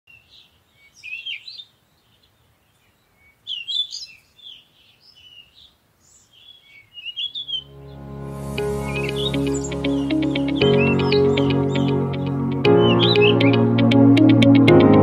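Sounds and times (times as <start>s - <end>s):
songbirds singing: 0.1s - 7.7s, 8.6s - 13.9s.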